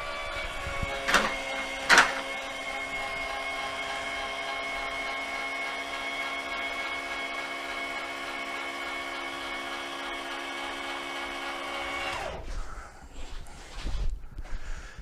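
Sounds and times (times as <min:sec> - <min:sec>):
electric lift motor whining: 0:00.0 - 0:12.6.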